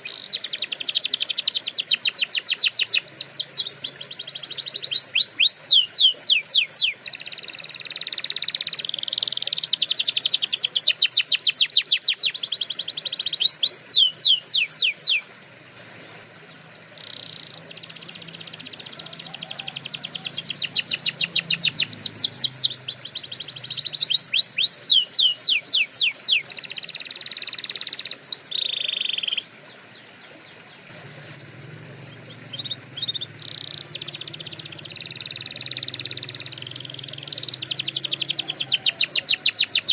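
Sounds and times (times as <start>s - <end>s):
canary singing trills: 0.0s - 15.4s, 16.3s - 39.9s.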